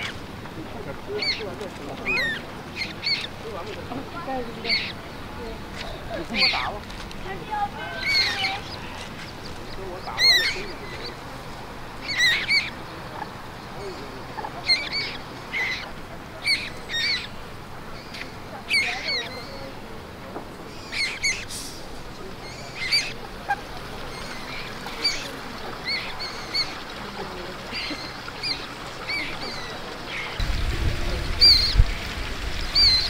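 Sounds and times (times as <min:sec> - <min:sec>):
moorhen chicks peeping: 0:00.0 - 0:33.0.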